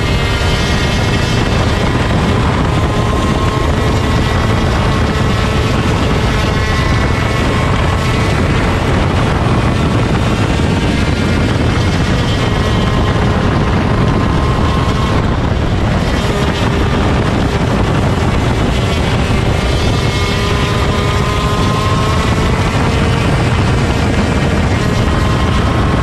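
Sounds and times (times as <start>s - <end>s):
kart engine running hard: 0.0s - 26.0s.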